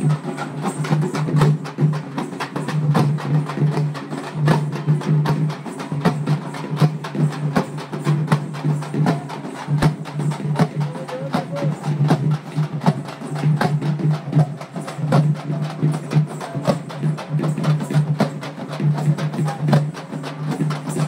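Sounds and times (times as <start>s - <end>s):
frame drums beaten with sticks: 0.0s - 21.0s.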